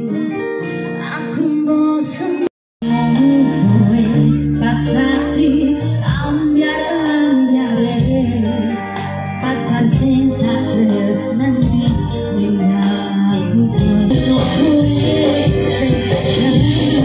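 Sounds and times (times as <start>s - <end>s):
band with keyboard and guitar: 0.0s - 17.0s
woman singing into microphone: 0.0s - 17.0s.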